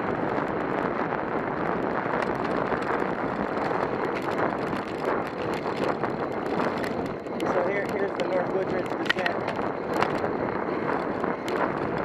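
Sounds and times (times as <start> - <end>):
bicycle tyres hissing on asphalt: 0.0 - 12.0
wind rushing over microphone: 0.0 - 12.0.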